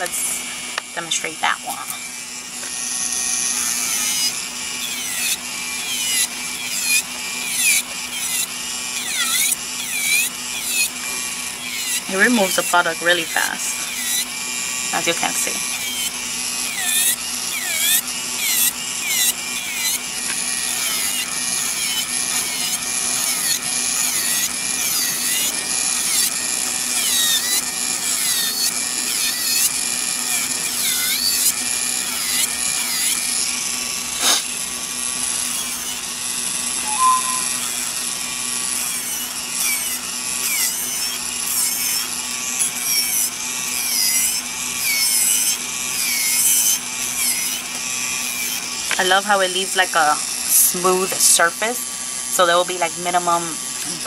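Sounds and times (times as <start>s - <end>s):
electric nail drill whining: 0.0s - 54.0s.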